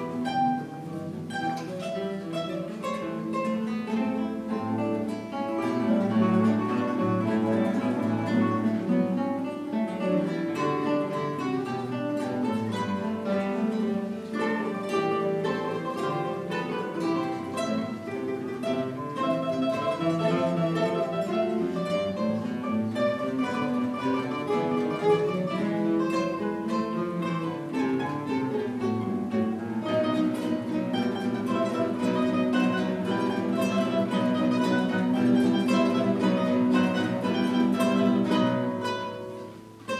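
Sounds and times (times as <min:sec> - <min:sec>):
acoustic guitars playing: 0:00.0 - 0:39.9.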